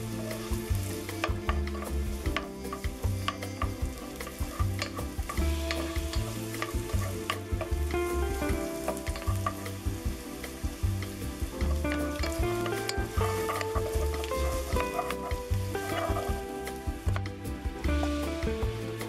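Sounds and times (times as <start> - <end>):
background music with bass line: 0.0 - 19.0
onion sizzling in hot oil: 0.0 - 19.0
spoon tapping and scraping pan: 0.2 - 9.9, 11.0 - 18.3.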